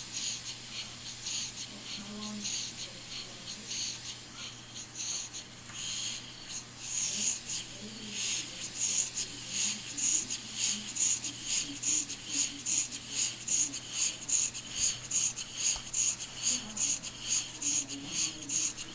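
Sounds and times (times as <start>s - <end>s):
exhaust hissing in puffs: 0.0s - 18.9s
model steam engine running: 0.0s - 18.9s.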